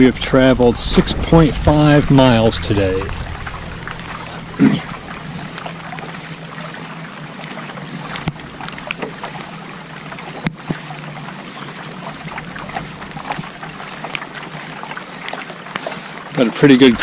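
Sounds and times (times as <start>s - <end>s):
drips and splashes: 0.0s - 17.0s
rain pattering on water: 0.0s - 17.0s.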